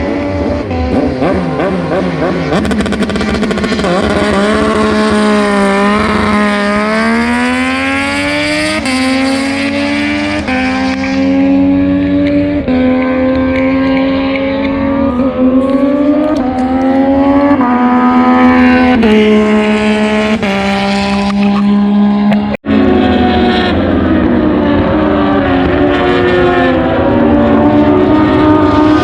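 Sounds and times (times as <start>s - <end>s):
racing motorcycles passing: 0.0s - 29.0s.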